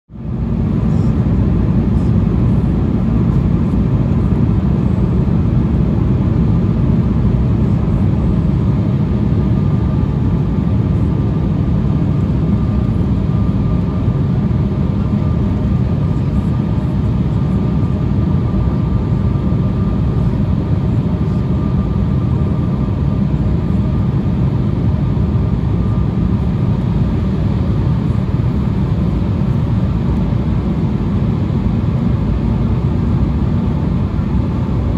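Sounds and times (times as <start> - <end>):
jet cabin rumble: 0.2 - 34.9.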